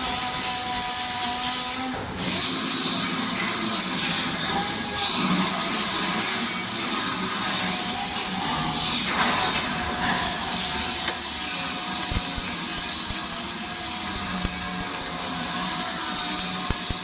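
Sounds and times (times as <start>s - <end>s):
arc welding hiss: 0.0s - 17.0s.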